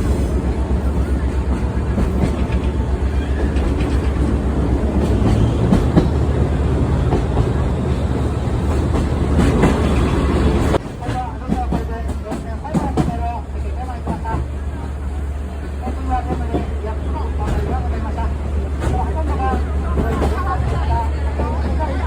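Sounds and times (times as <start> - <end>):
trolley train rumbling on rails: 0.0 - 22.0
wheel clatter over rail joints: 0.0 - 22.0.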